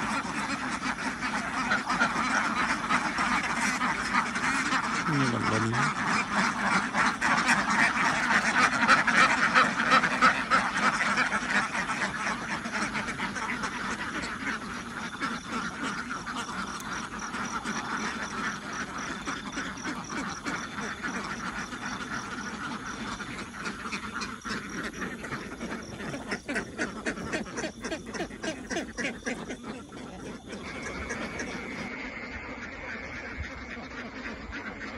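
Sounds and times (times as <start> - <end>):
flock of ducks quacking: 0.0 - 34.9.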